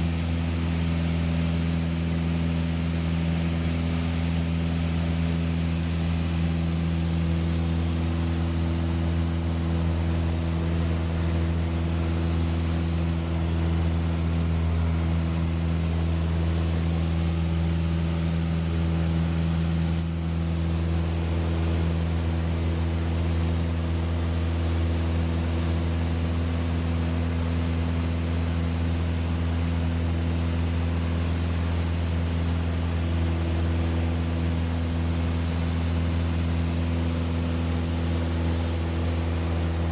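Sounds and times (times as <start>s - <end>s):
aircraft piston engine droning: 0.0s - 39.9s.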